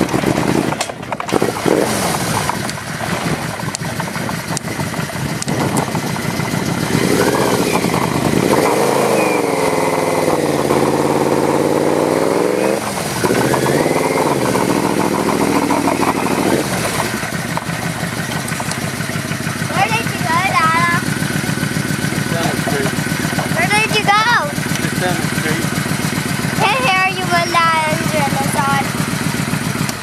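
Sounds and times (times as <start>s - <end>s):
wind and road noise: 0.0s - 25.1s
motorcycle engine revving: 0.0s - 30.0s.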